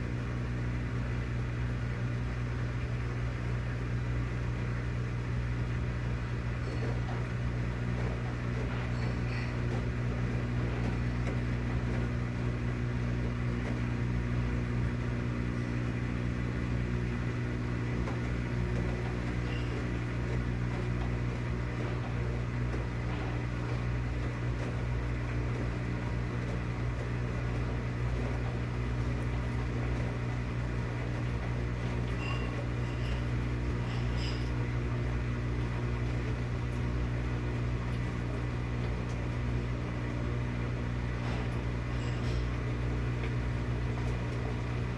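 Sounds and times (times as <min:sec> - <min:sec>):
washing machine motor hum: 0:00.0 - 0:44.9.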